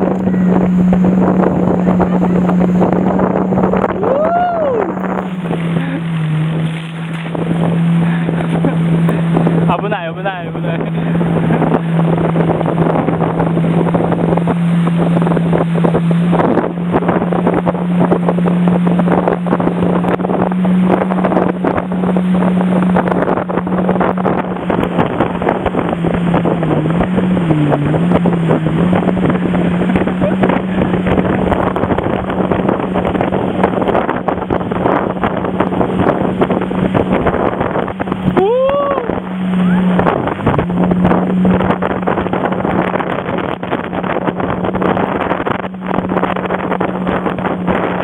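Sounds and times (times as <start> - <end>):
motorboat engine running: 0.0 - 48.0
water rushing: 0.0 - 48.0
wind on microphone: 0.0 - 48.0.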